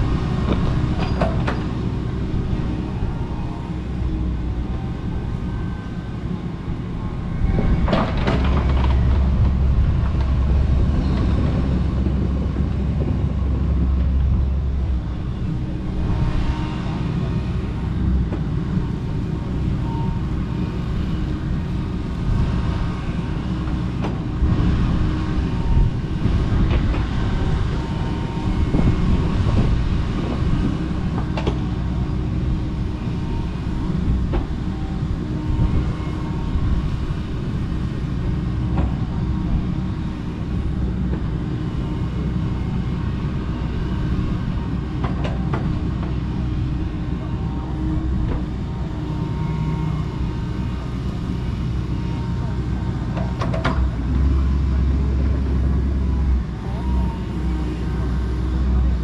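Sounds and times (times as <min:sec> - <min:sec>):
excavator engine working: 0:00.0 - 0:59.0.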